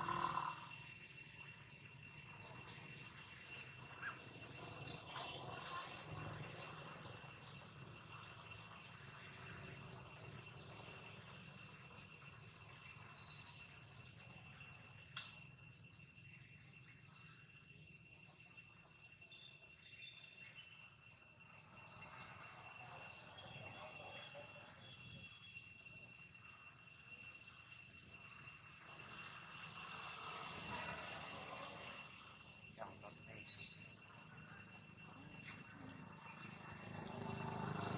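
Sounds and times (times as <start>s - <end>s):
insects high drone: 0.0s - 37.9s
rapid insect chirping: 0.0s - 37.9s.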